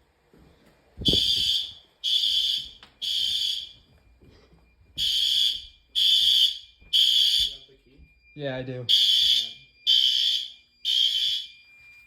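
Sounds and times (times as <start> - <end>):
fire alarm horn blasts: 1.0 - 12.0.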